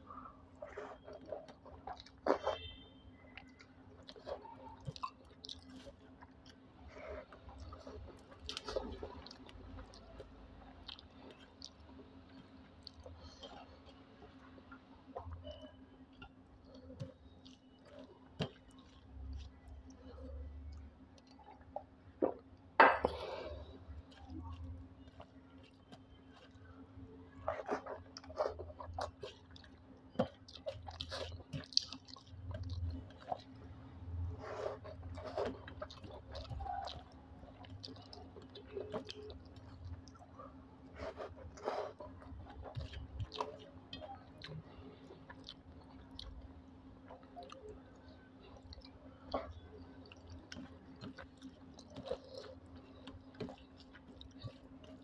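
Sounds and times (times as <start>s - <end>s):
faint steady hum: 0.0s - 55.0s
man chewing: 0.2s - 2.8s, 3.4s - 22.4s, 23.2s - 55.0s.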